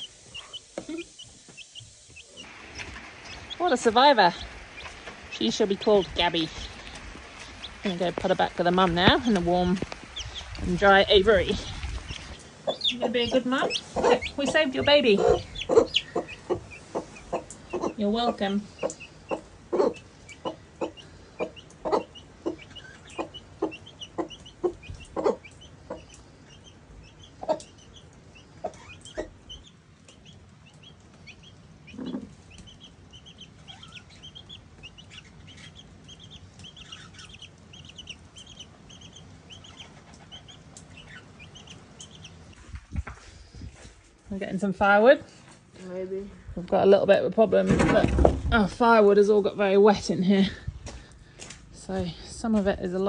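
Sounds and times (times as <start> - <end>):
chick peeping: 0.0 - 42.8
hen clucking: 0.0 - 42.8.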